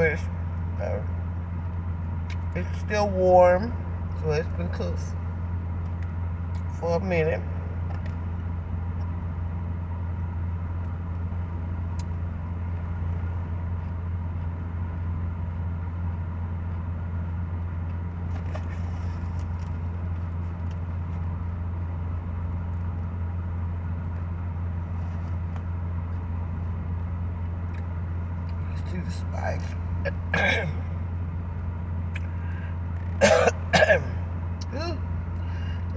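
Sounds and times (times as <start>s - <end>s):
air conditioner humming: 0.0s - 35.9s.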